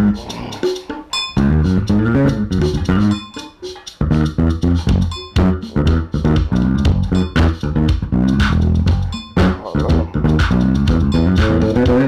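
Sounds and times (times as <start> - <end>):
electric bass guitar plucked notes: 0.0 - 0.3, 1.4 - 3.3, 4.0 - 12.0.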